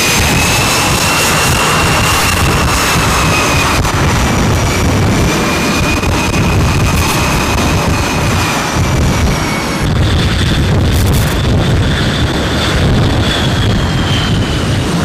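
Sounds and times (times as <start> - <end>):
jet engines whining and rumbling: 0.0 - 15.0.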